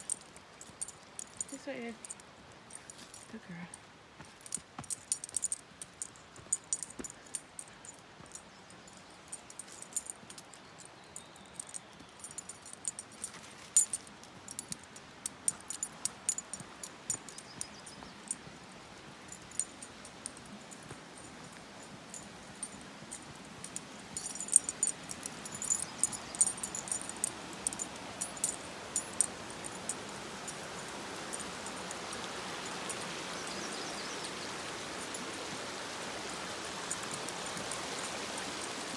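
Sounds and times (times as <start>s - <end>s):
metal dog tags jingling: 0.0s - 3.8s, 4.4s - 34.4s, 36.8s - 38.8s
faint steady hiss: 0.0s - 38.9s.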